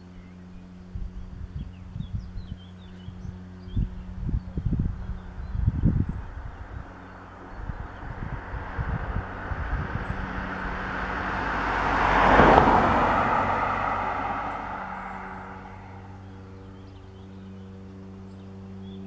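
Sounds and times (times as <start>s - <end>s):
steady low hum: 0.0s - 19.0s
road vehicle passing: 2.8s - 18.8s.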